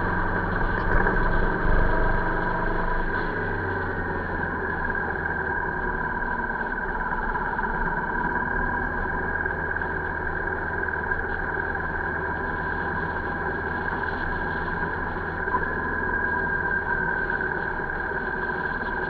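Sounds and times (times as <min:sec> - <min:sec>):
motorcycle engine drone: 0:00.0 - 0:19.0.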